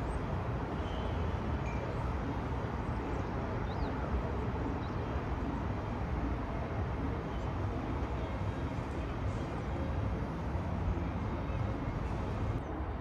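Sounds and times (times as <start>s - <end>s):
distant traffic and rail rumble: 0.0s - 13.0s.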